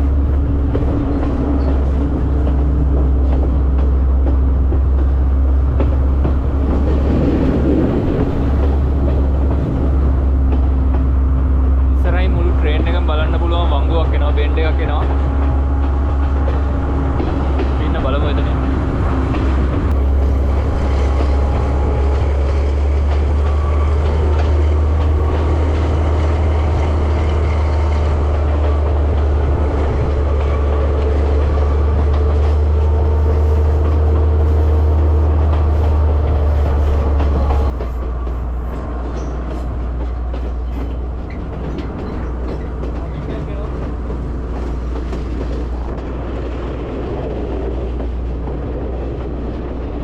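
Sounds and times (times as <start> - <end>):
train rumble: 0.0 - 50.0
train wheel clatter: 0.0 - 50.0.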